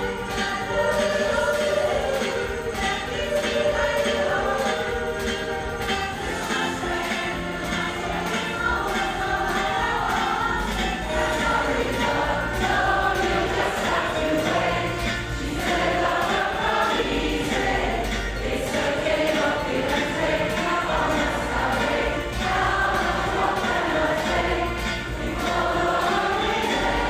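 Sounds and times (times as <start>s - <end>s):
women's choir singing pop song: 0.0s - 27.0s.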